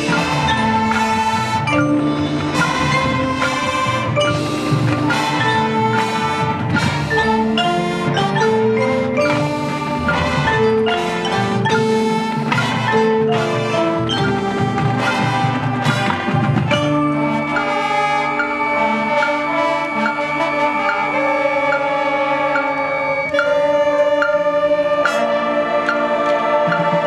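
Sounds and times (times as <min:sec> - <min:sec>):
marching band playing: 0:00.0 - 0:27.0
marimbas striking quick notes: 0:00.0 - 0:27.0.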